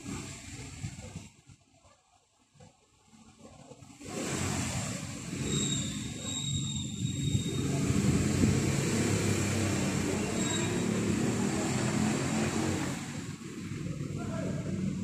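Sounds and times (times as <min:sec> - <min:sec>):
engine humming steadily: 0:00.0 - 0:01.6, 0:02.6 - 0:15.0.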